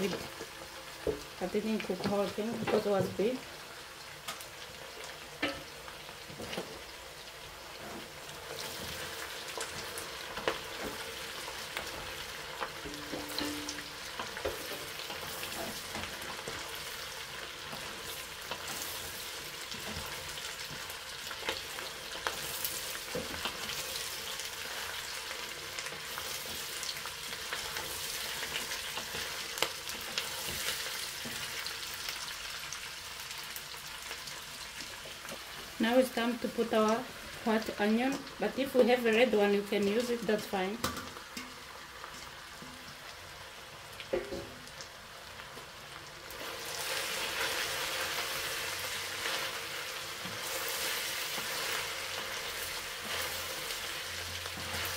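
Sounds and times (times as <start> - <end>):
vegetables sizzling in oil: 0.0 - 54.9.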